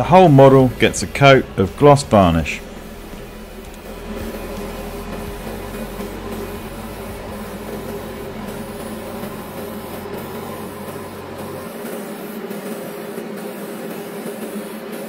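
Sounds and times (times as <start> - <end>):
airbrush spraying hiss: 0.0 - 15.0
extractor fan hum: 0.0 - 15.0.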